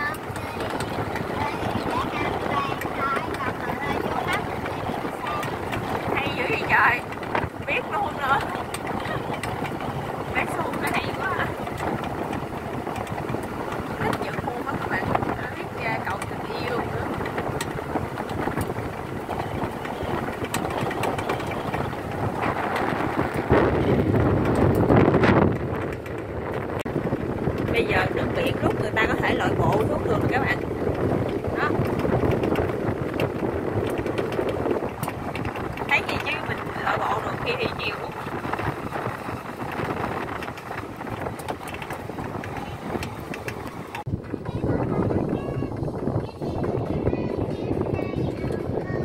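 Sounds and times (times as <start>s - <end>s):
electric cart rattling on road: 0.0s - 49.0s
tyre rumble: 0.0s - 49.0s
wind rushing on microphone: 0.0s - 49.0s.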